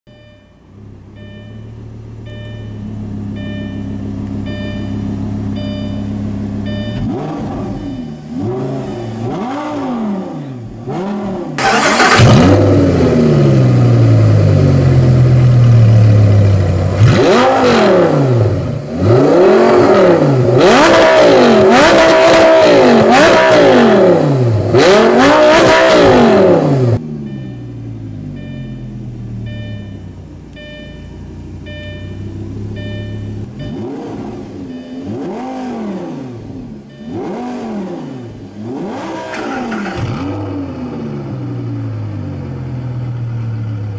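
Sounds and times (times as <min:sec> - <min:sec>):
sports car exhaust idling and revving: 0:00.1 - 0:11.6, 0:12.2 - 0:43.9.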